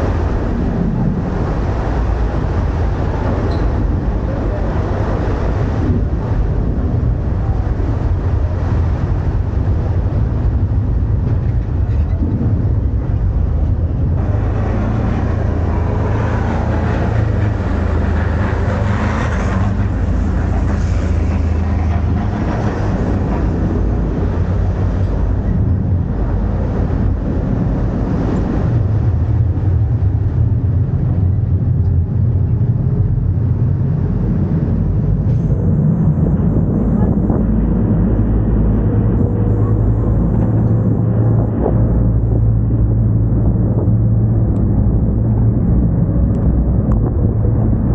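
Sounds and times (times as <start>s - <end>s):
boat engine droning: 0.0s - 47.9s
water rushing along hull: 0.0s - 47.9s.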